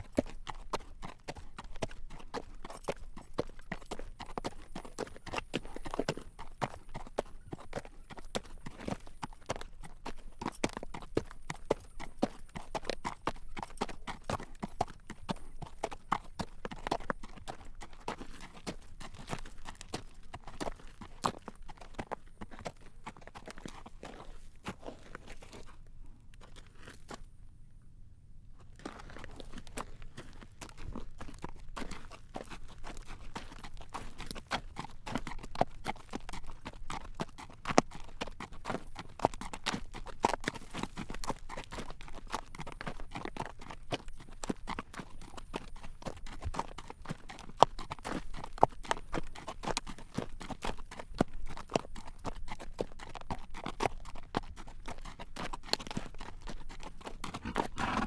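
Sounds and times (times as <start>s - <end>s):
horse hooves clip-clopping on road: 0.0s - 27.3s, 28.6s - 58.0s.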